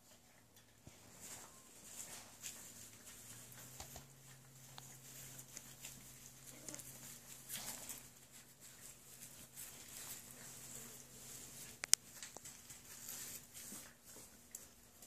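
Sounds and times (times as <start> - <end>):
low steady hum: 0.0 - 15.0
puppies lapping and chewing: 0.0 - 15.0
rustling of wood shavings: 0.0 - 15.0.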